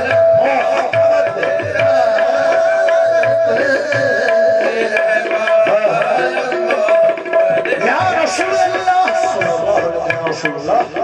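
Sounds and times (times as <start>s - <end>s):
man singing: 0.0s - 11.0s.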